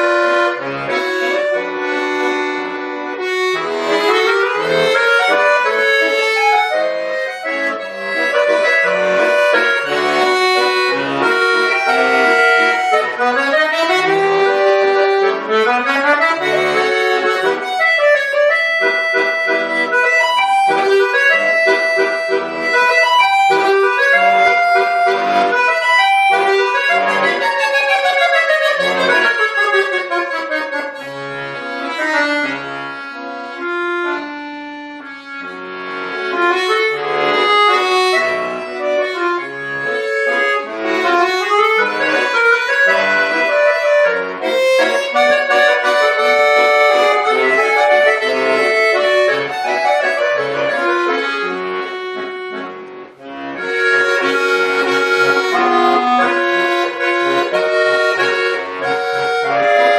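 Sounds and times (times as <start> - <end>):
button accordion solo: 0.0 - 59.9.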